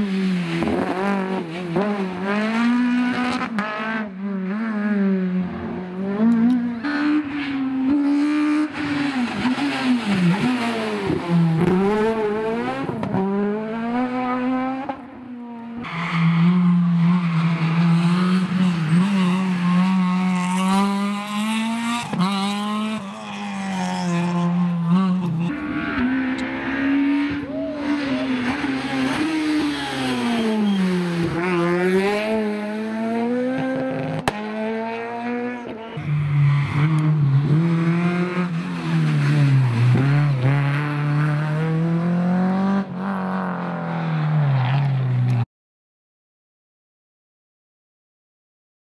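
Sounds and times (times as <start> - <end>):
rally car engines revving: 0.0 - 45.4.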